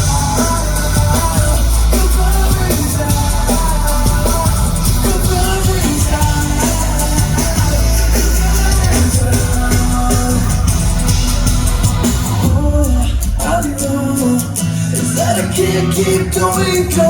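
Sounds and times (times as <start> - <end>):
drums: 0.0 - 17.0
guitars: 0.0 - 17.0
person singing: 0.0 - 17.0
rock band playing live: 0.0 - 17.0.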